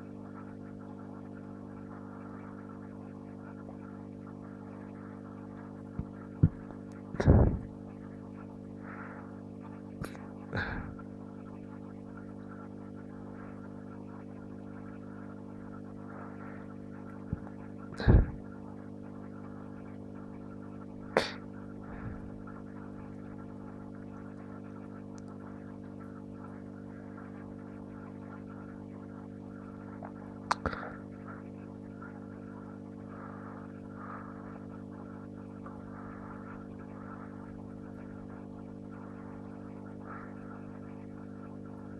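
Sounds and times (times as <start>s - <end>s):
aquarium equipment hum: 0.0s - 41.9s.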